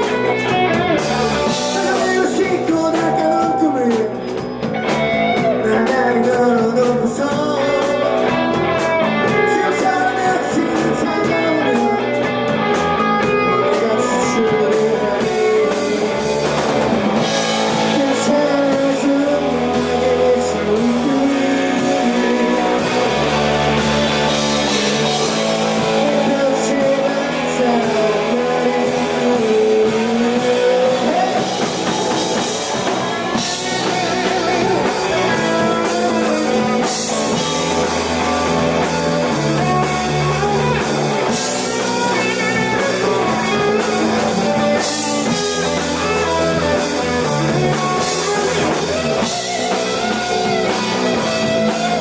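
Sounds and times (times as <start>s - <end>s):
bass guitar: 0.0s - 52.0s
drum kit: 0.0s - 52.0s
electric guitars: 0.0s - 52.0s.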